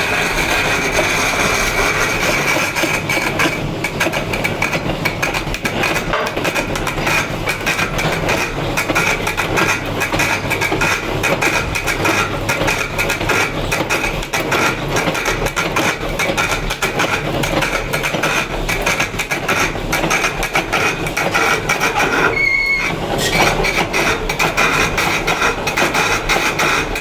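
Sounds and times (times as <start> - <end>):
tools tapping and scraping stone: 2.6 - 27.0.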